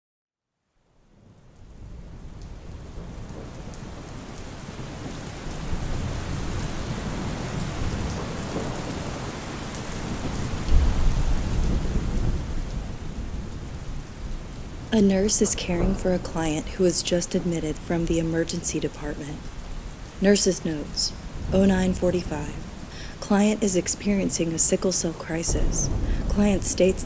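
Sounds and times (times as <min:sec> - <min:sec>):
steady rain: 0:00.6 - 0:27.0
rolling thunder: 0:01.2 - 0:27.0.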